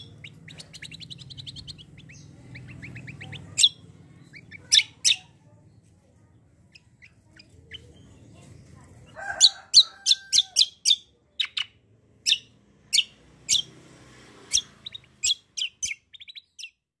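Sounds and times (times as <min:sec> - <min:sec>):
songbird chirping and trilling: 0:00.0 - 0:17.0.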